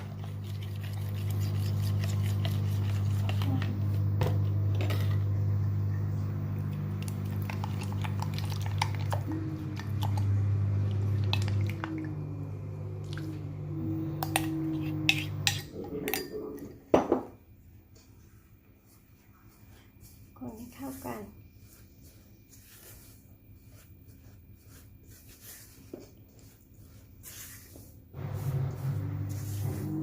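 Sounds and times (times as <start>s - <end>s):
utensil scraping mixing bowl: 0.0s - 5.2s, 6.6s - 16.7s, 20.4s - 30.0s
low machine hum: 0.0s - 22.5s, 28.1s - 30.0s.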